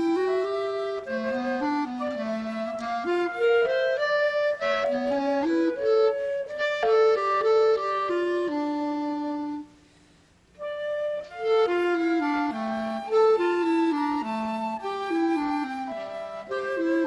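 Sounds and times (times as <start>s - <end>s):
flute and clarinet duet: 0.0s - 17.0s.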